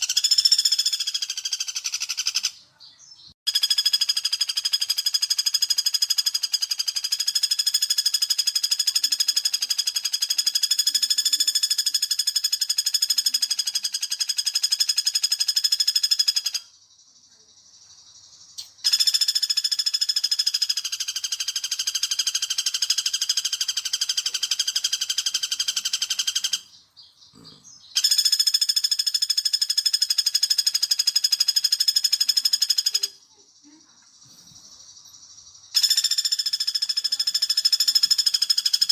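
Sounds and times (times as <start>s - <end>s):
woodpecker trill call: 0.0s - 16.8s, 18.6s - 33.3s, 35.7s - 38.9s.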